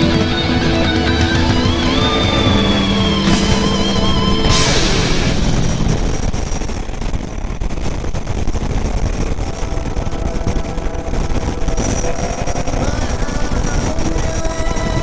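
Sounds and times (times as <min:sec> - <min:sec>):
motorcycle engine running: 0:00.0 - 0:15.0
wind rushing on microphone: 0:00.0 - 0:15.0.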